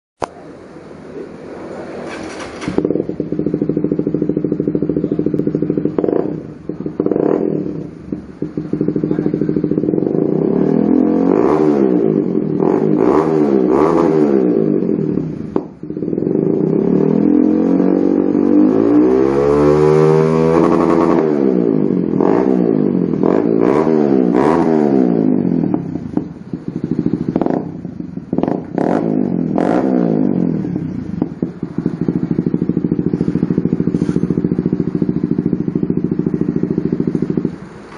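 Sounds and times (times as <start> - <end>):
motorcycle engine revving: 0.2 - 37.9.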